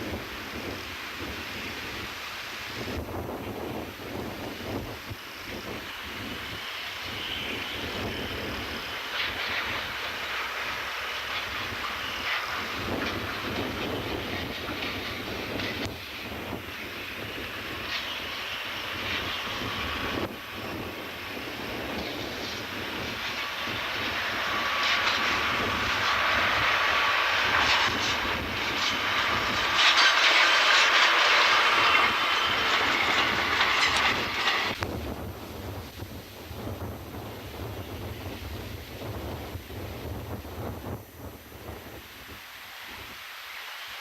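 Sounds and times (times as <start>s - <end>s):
strong wind: 0.0s - 44.0s
train wheels clicking on rail joints: 0.0s - 44.0s.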